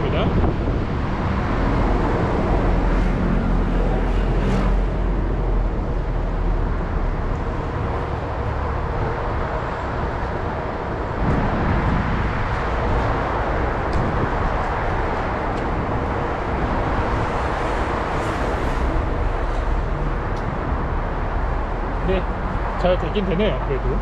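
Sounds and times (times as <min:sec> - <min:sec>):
heavy low rumble: 0:00.0 - 0:24.0
road traffic: 0:00.0 - 0:24.0.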